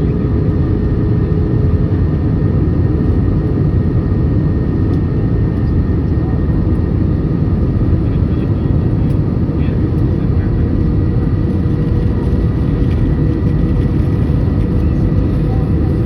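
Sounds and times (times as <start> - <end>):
airliner cabin engine rush: 0.0 - 16.0.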